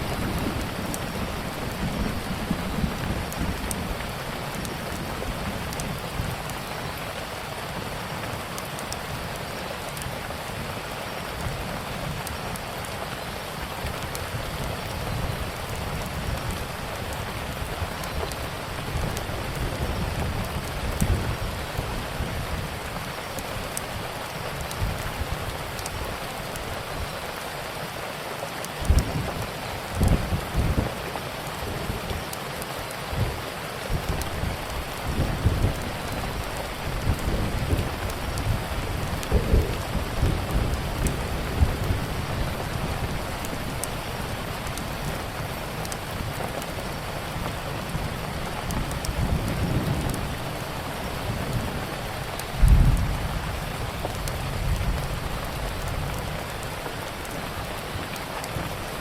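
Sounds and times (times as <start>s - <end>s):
steady rain falling: 0.0s - 59.0s
wood fire crackling: 0.0s - 59.0s.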